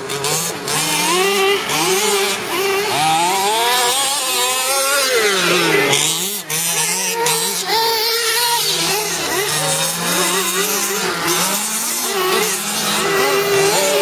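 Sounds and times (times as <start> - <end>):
small two-stroke engine revving: 0.0 - 14.0.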